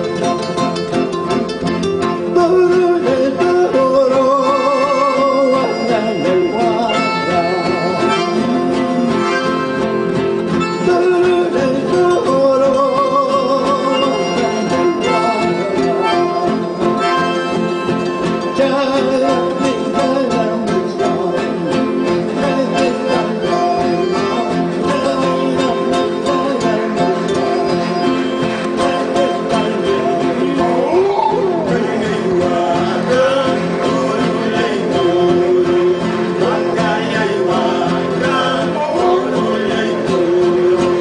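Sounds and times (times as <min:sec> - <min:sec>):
accordion: 0:00.0 - 0:41.0
acoustic guitars strumming: 0:00.0 - 0:41.0
man singing: 0:00.0 - 0:41.0.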